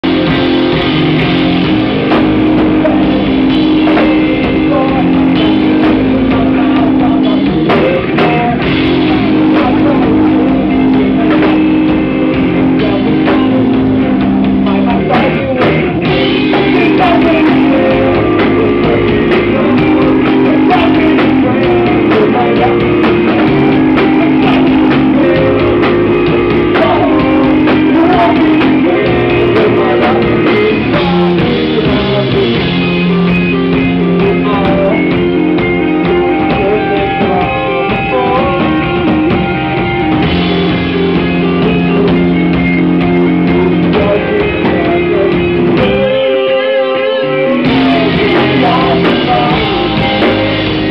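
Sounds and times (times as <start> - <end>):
rock band playing live: 0.0 - 50.9.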